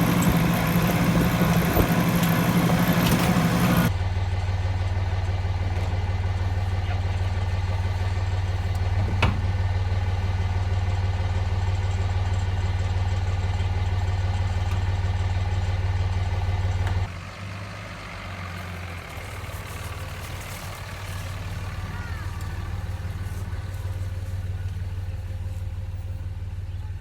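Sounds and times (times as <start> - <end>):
engine idling hum: 0.0 - 27.0.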